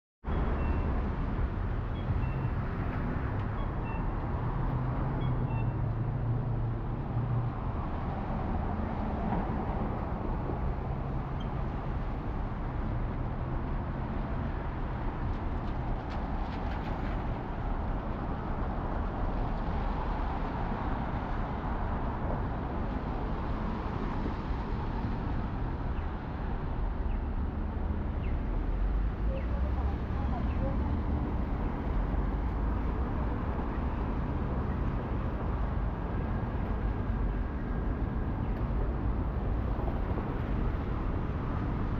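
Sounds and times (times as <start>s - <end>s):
traffic on wet roads: 0.3s - 41.9s.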